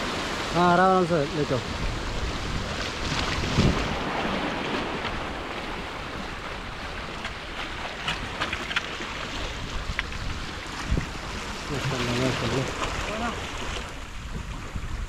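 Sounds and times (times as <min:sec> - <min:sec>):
sea water washing against rocks: 0:00.0 - 0:15.0
wind on microphone: 0:00.0 - 0:15.0.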